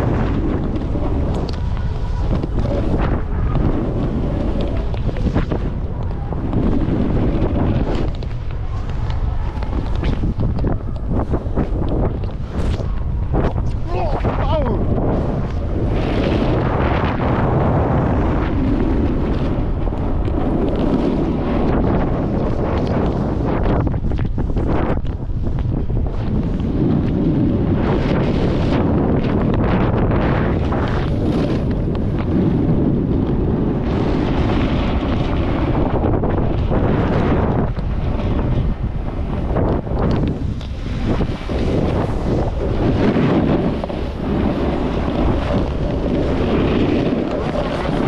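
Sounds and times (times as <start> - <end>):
snowboard scraping over snow: 0.0 - 48.0
wind buffeting microphone: 0.0 - 48.0.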